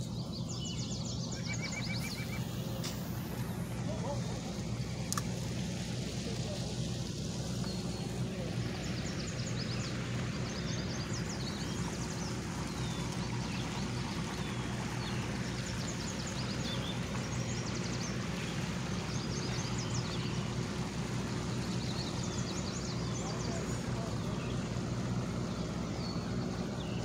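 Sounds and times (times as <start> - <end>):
birds chirping: 0.0 - 27.0
motorboat engine hum: 0.0 - 27.0.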